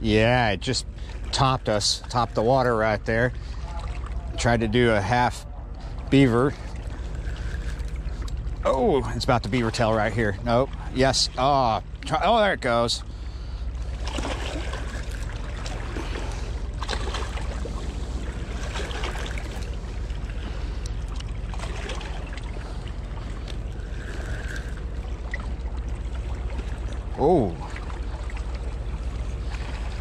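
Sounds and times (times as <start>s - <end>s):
low rumble: 0.0s - 30.0s
river water washing: 0.0s - 30.0s
wind: 0.0s - 30.0s.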